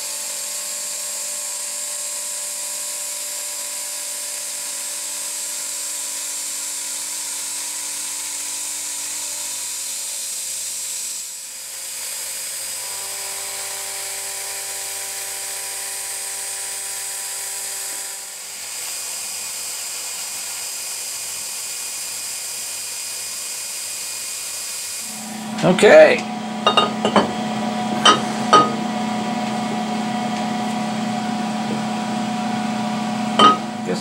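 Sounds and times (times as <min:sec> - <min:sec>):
milling machine whine: 0:00.0 - 0:34.0.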